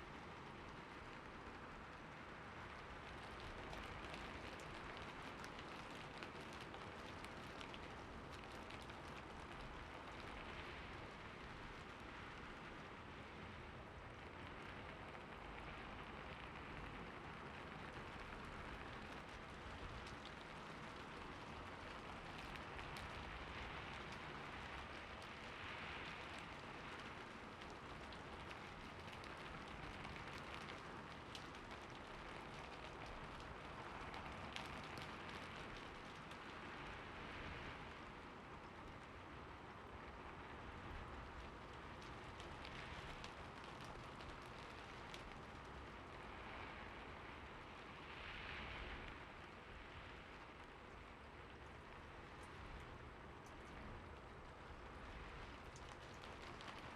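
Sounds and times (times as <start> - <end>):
light rain falling: 0.0 - 56.9.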